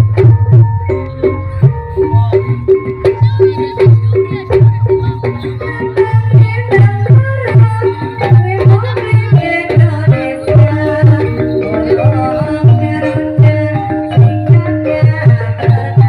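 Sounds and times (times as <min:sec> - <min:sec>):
deep hand drum beating: 0:00.0 - 0:16.0
ensemble melodic lines: 0:00.0 - 0:16.0.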